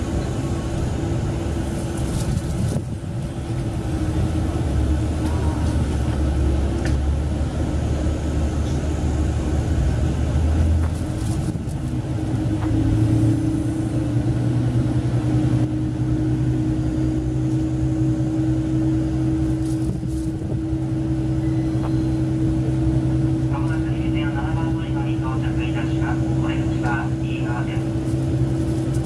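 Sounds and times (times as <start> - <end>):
railcar diesel engine running: 0.0 - 29.0.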